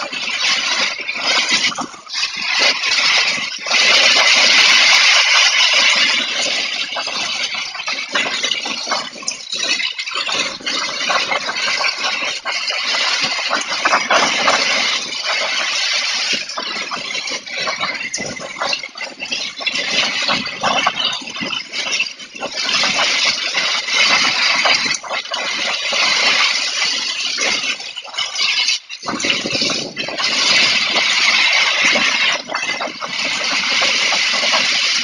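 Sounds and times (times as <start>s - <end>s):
gusting wind: 0.0s - 35.0s.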